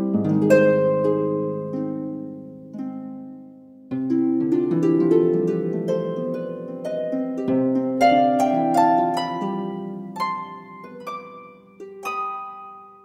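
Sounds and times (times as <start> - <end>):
plucked string instrumental: 0.0 - 13.0.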